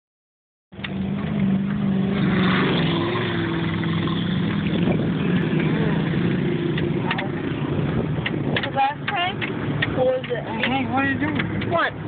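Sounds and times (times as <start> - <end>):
vehicle engine running: 0.7 - 12.0.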